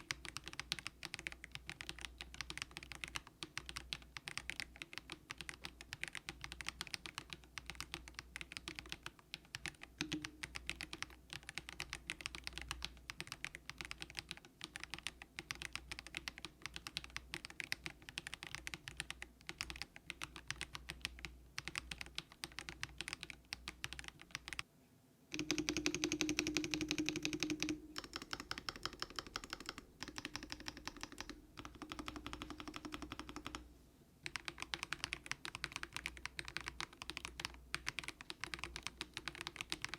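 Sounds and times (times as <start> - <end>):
mechanical keyboard typing: 0.0 - 24.6, 25.3 - 33.6, 34.2 - 39.9.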